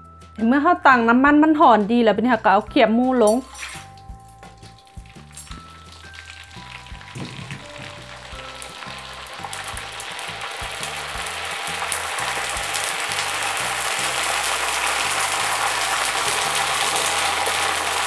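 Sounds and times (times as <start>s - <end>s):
pork skins sizzling in oil: 3.2s - 18.0s.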